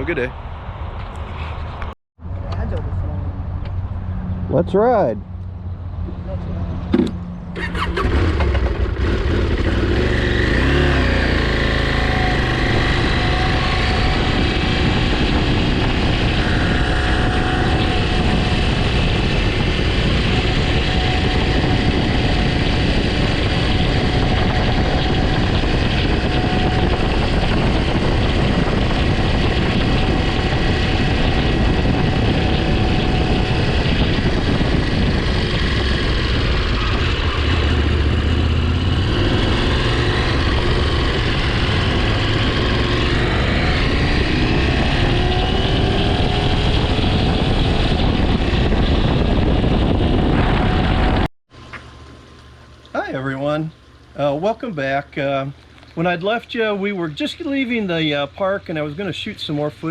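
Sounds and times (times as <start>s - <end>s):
motorcycle accelerating: 1.2s - 51.3s.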